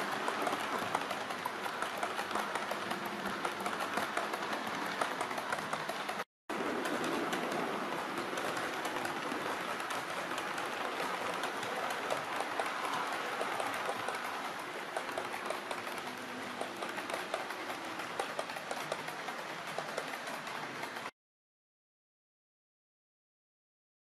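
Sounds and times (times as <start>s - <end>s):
clicks over rail joints: 0.0s - 21.1s
model train wheels rattling: 0.0s - 21.1s.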